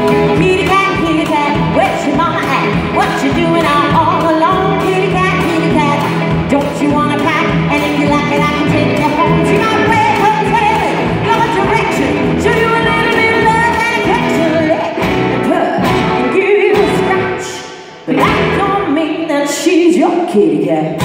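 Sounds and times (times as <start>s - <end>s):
live rock band playing: 0.0s - 19.0s
woman singing: 0.0s - 21.0s.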